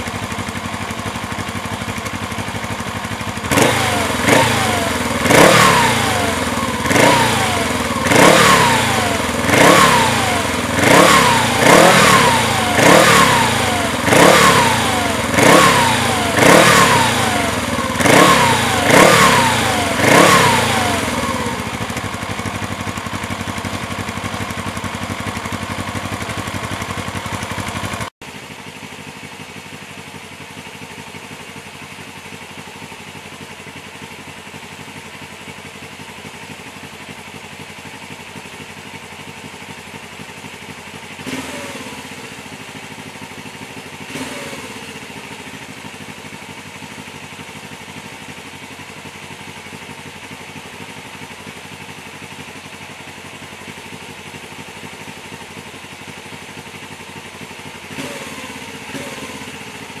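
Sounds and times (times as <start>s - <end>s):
motorcycle engine idling: 0.0s - 60.0s.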